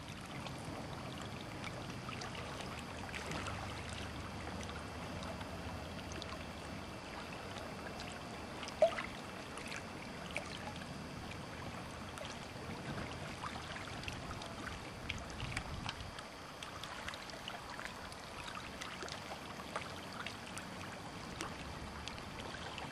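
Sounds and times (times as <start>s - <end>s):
water lapping against boat hull: 0.0s - 22.9s.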